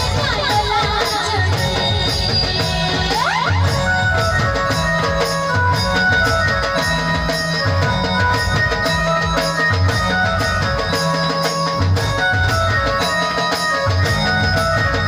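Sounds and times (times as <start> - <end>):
keyboard melody: 1.6 - 15.0.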